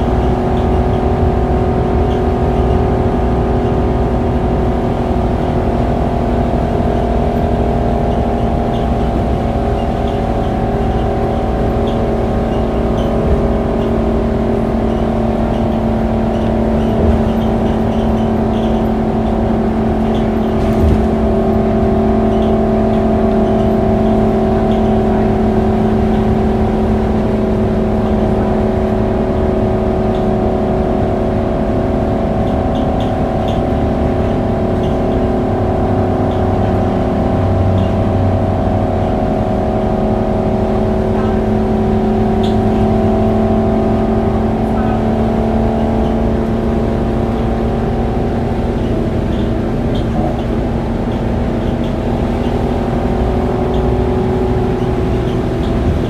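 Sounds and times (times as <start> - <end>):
bus diesel engine drone: 0.0 - 56.0
tyre and road noise: 0.0 - 56.0.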